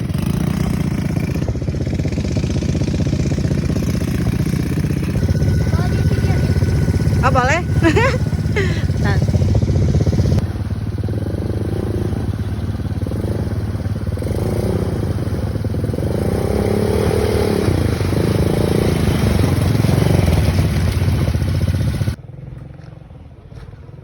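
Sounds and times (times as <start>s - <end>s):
quad engine running: 0.0s - 23.2s.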